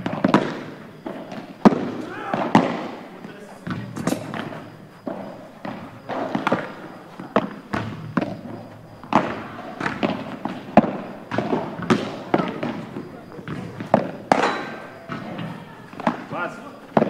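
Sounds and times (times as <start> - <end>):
padel balls struck by rackets: 0.0 - 17.0.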